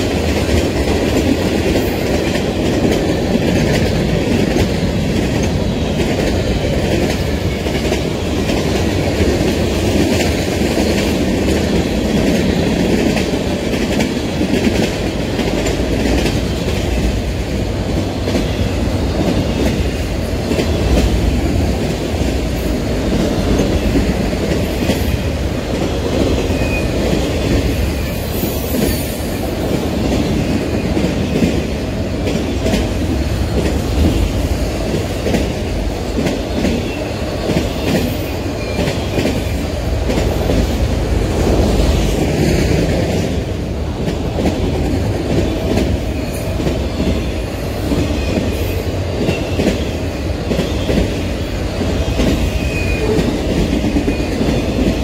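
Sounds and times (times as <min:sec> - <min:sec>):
train wheels clacking on rail joints: 0:00.0 - 0:55.0.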